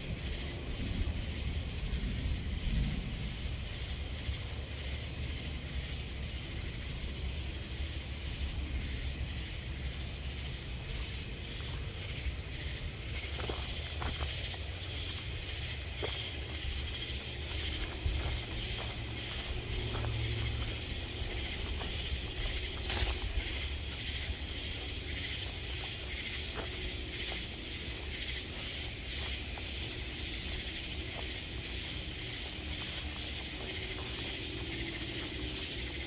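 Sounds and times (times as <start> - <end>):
night insects chirping: 0.0 - 36.0.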